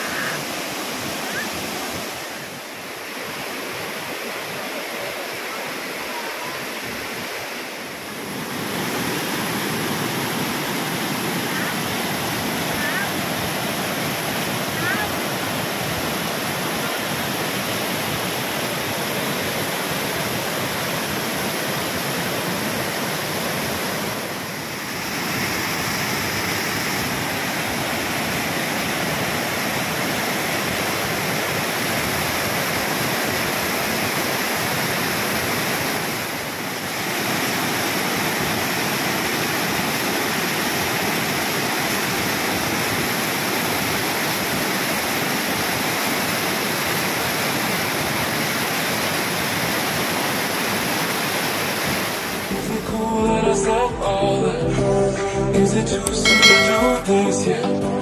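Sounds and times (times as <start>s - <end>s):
waterfall rushing over rocks: 0.0s - 52.8s.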